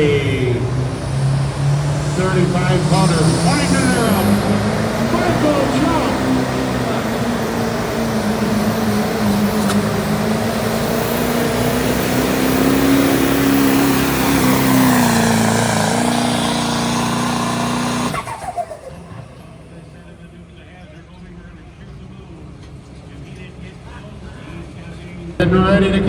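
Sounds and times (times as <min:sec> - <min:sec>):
diesel engine at high revs: 0:00.0 - 0:26.0.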